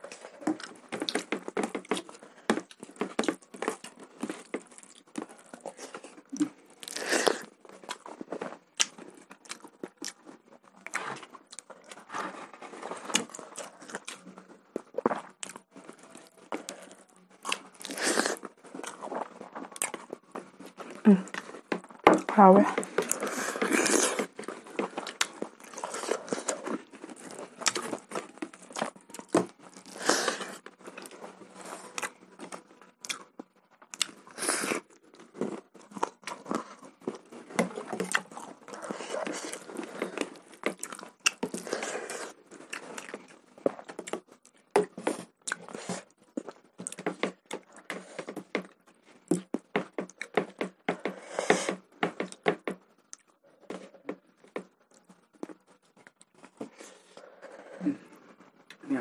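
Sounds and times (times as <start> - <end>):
chewing and lip-smacking: 0.0 - 22.0, 22.8 - 51.2.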